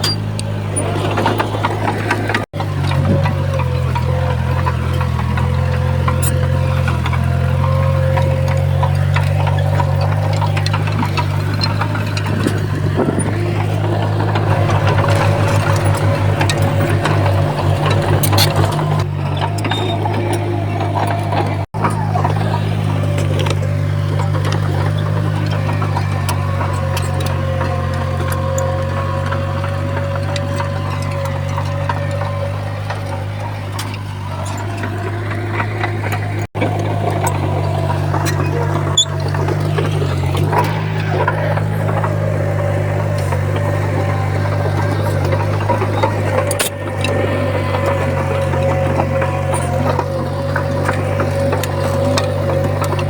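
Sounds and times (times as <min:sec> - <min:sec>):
bulldozer diesel engine working: 0:00.0 - 0:53.0
scattered clanks: 0:00.0 - 0:53.0.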